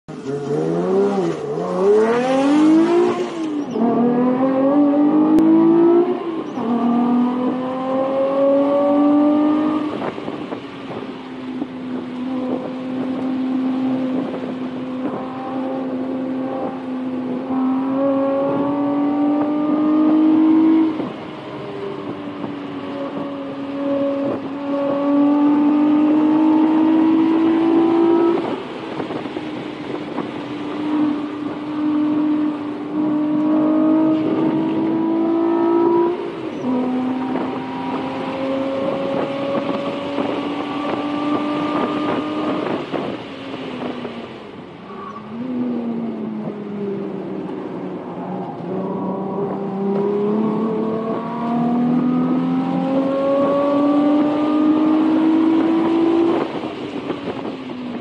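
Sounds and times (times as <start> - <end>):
car engine pulling through gears: 0.1 - 58.0.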